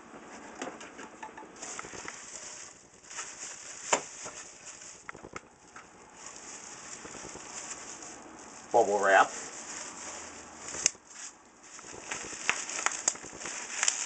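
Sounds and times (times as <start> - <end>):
bubble wrap crinkling: 1.6 - 14.0.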